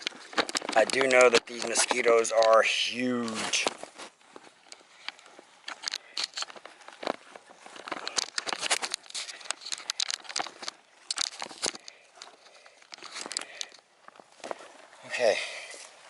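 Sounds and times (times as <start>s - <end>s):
rustling and crinkling handling: 0.0s - 16.0s.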